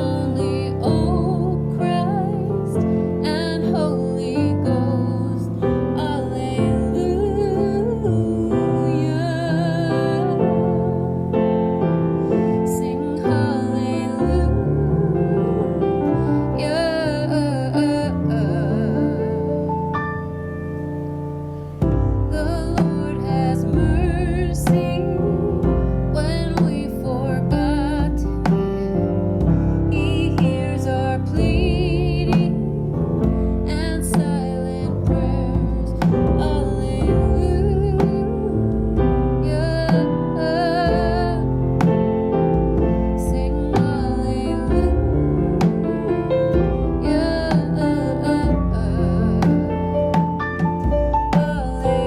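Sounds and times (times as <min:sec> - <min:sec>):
solo voice singing with vibrato: 0:00.0 - 0:11.6, 0:12.3 - 0:19.9, 0:22.0 - 0:42.1, 0:42.8 - 0:52.0
piano accompaniment: 0:00.0 - 0:52.0.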